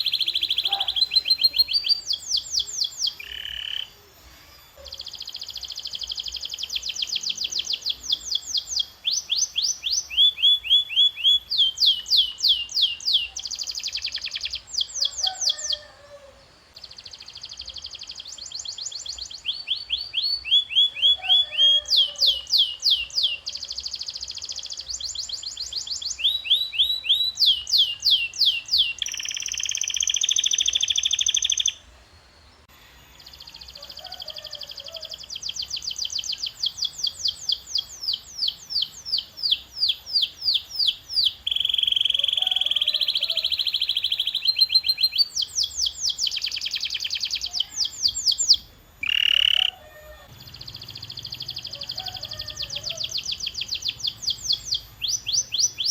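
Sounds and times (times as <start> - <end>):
canary singing: 0.0 - 31.9, 33.0 - 55.9.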